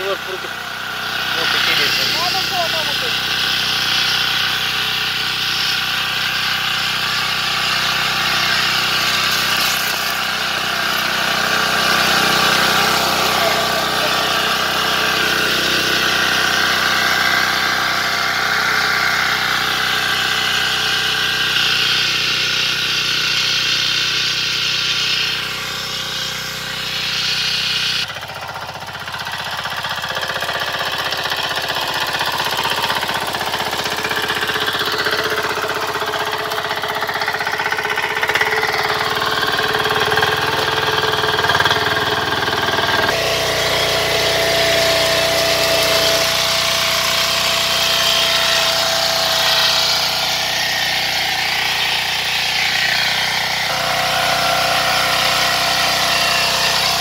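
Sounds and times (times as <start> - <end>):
tines clattering: 0.0 - 21.9, 30.0 - 57.0
tiller engine running: 0.0 - 57.0.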